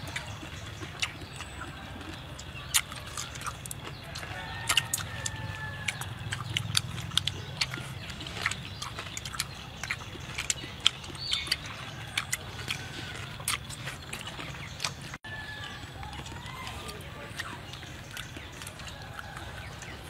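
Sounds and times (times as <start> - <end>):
person chewing and lip smacking: 0.0 - 20.0.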